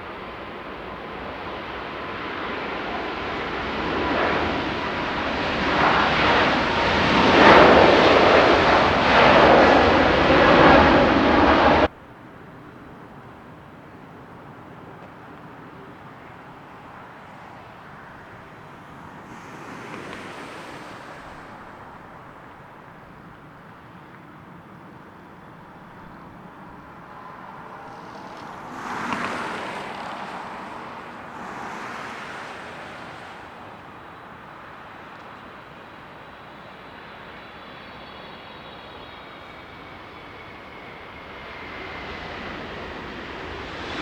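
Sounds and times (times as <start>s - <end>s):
distant jet airliner passing: 0.0s - 44.0s
faint high engine whine: 0.0s - 44.0s.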